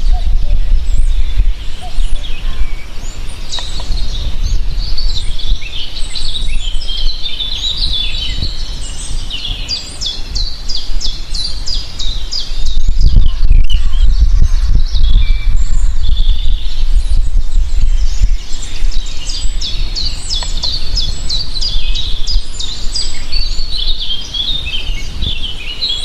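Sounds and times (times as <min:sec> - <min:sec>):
steady deep rumble: 0:00.0 - 0:24.5
songbirds chirping: 0:00.0 - 0:26.0.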